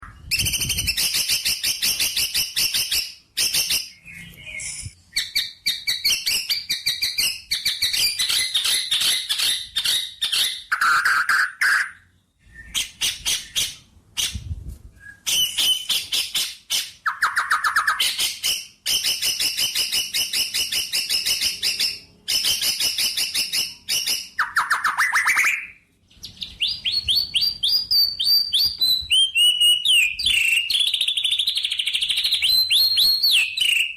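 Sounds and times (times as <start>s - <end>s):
songbird chirps and trills: 0.0s - 33.9s.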